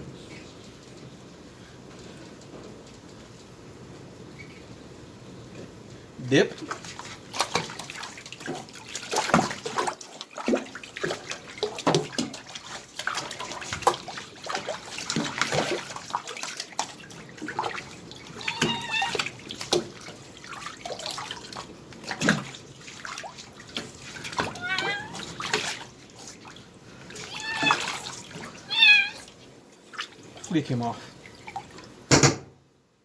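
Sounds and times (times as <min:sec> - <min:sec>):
water splashing and sloshing: 0:00.1 - 0:32.3.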